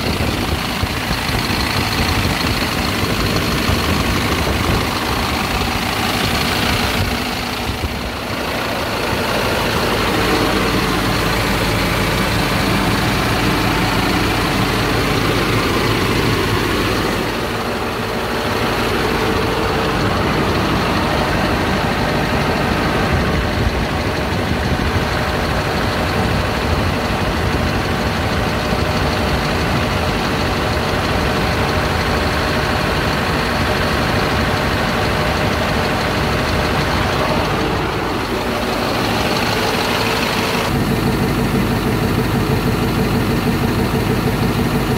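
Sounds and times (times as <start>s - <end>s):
diesel truck engine idling: 0.0s - 44.9s.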